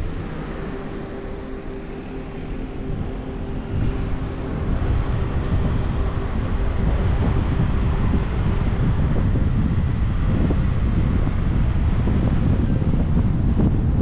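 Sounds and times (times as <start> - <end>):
faint steady hum: 0.0 - 14.0
wind buffeting microphone: 0.0 - 14.0.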